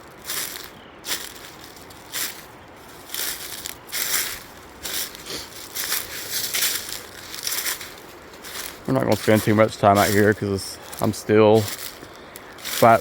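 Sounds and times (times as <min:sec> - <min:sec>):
footsteps crunching on rocky ground: 0:00.0 - 0:13.0.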